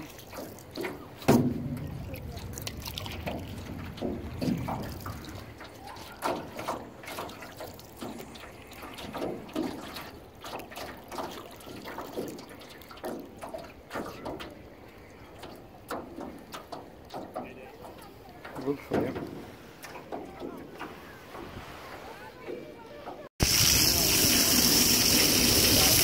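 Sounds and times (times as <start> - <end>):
water splashing against canoe hull: 0.0 - 23.6.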